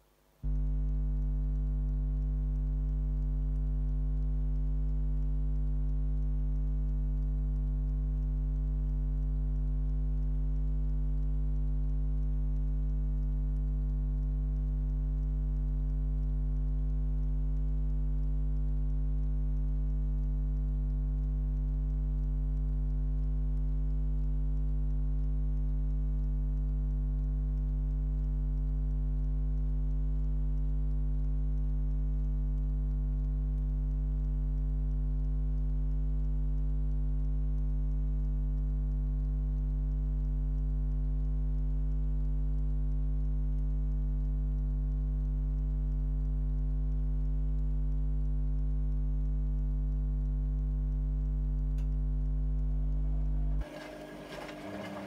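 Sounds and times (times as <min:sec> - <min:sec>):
washing machine electrical hum: 0:00.0 - 0:55.0
faint fine ticking: 0:00.5 - 0:53.7.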